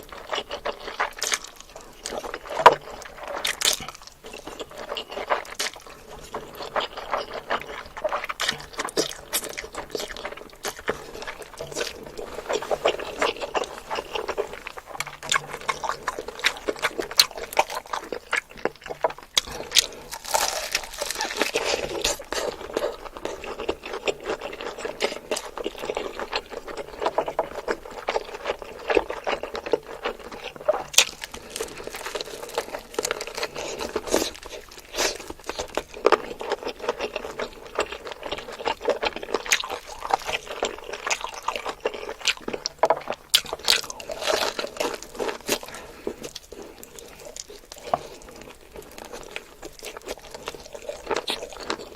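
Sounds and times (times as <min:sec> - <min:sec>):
chewing: 0:00.0 - 0:51.9.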